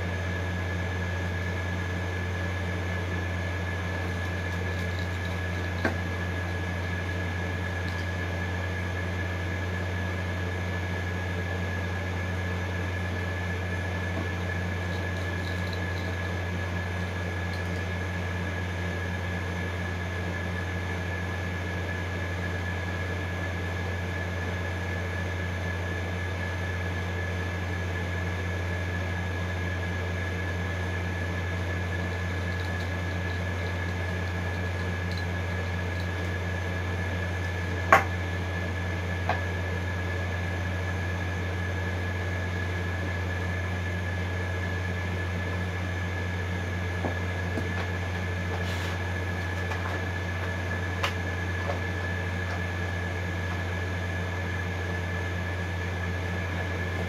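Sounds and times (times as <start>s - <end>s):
machine hum with high whine: 0.0s - 57.0s.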